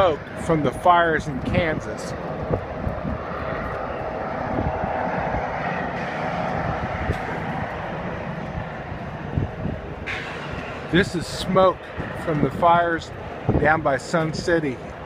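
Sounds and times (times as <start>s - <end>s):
distant mechanical drone: 0.0s - 15.0s
wind buffeting microphone: 0.0s - 15.0s.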